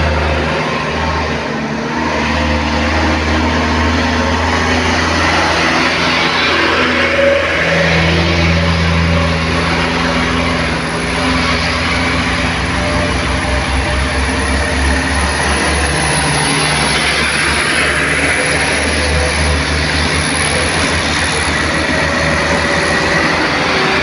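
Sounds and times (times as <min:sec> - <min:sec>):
heavy truck engine running: 0:00.0 - 0:24.0
tyre and road noise: 0:00.0 - 0:24.0.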